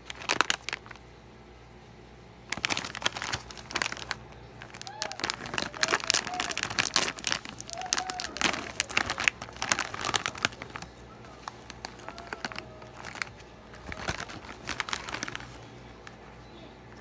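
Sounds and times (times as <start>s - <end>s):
plastic snack bag crinkling: 0.0s - 1.1s, 2.5s - 16.2s.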